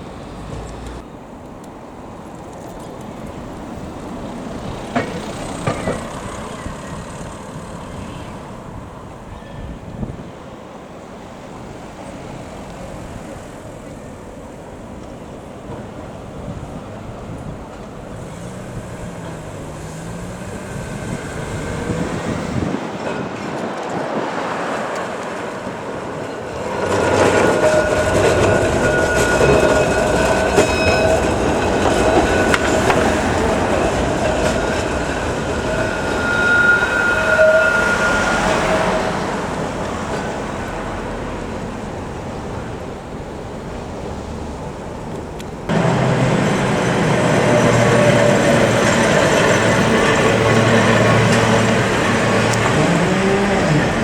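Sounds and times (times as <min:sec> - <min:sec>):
tram wheels rumbling and squealing: 0:00.0 - 0:54.0.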